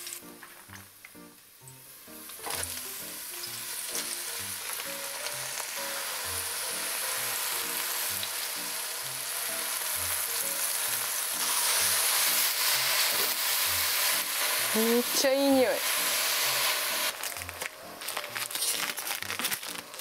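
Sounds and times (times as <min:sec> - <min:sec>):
mushrooms sizzling in oil: 0:00.0 - 0:20.0.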